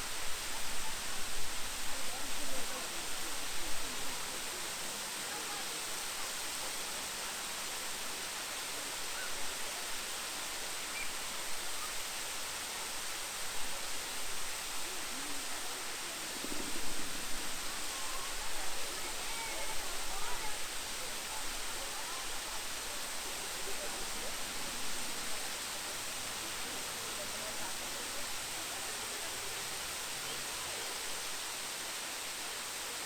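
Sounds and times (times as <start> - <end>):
faint voices: 0.0 - 33.0
waterfall rushing: 0.0 - 33.0.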